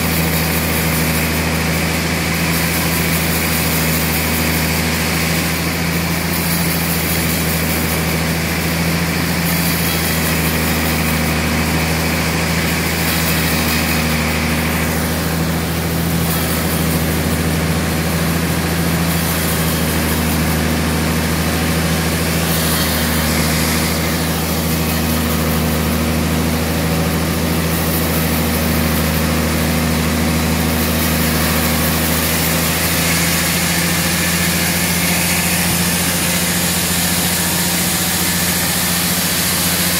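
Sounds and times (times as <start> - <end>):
band saw blade cutting log: 0.0 - 39.9
sawmill motor hum: 0.0 - 39.9.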